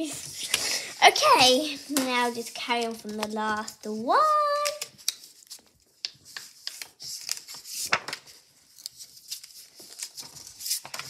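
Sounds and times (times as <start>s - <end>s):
paper crackle: 0.0s - 11.0s
paper rustling while folded: 0.0s - 11.0s.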